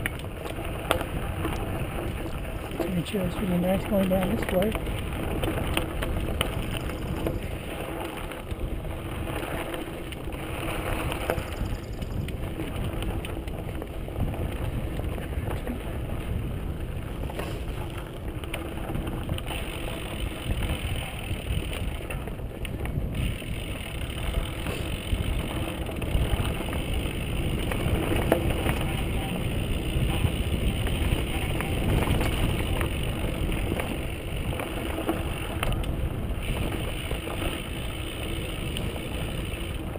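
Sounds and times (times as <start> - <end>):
bike clicks and rattles: 0.0 - 39.9
tyres rolling over dirt: 0.0 - 39.9
wind rumble on microphone: 0.0 - 39.9.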